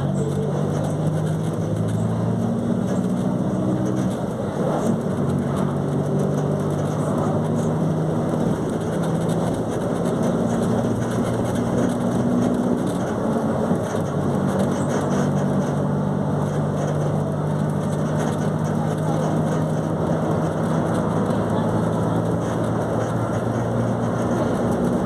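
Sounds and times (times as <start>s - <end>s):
diesel bus engine running: 0.0s - 25.0s.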